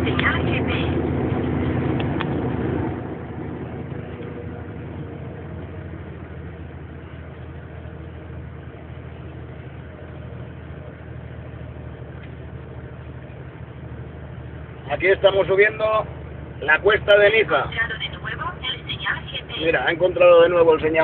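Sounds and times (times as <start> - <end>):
diesel truck engine drone: 0.0 - 21.0
road noise: 0.0 - 21.0.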